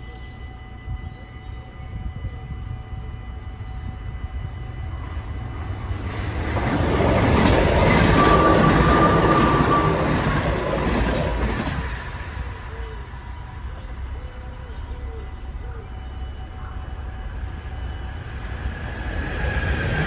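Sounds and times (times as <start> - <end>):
train wheels rumbling on rails: 1.8 - 20.0.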